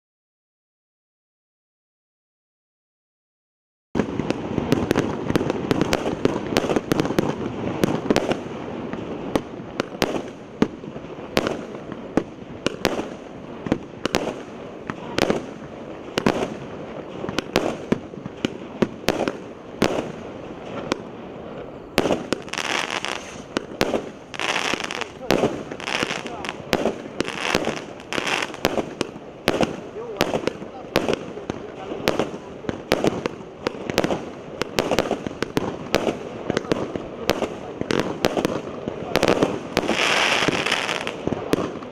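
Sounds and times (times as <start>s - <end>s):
firework bangs: 4.0s - 41.9s
firework hiss: 4.0s - 41.9s.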